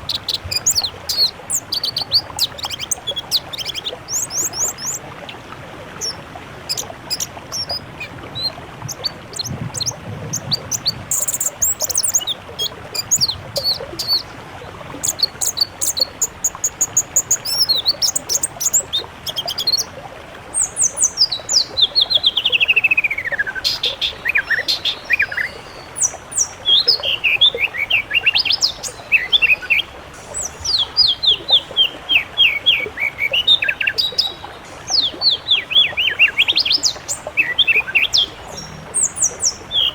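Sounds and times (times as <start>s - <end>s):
songbirds chirping and trilling: 0.0s - 19.9s, 20.6s - 39.9s.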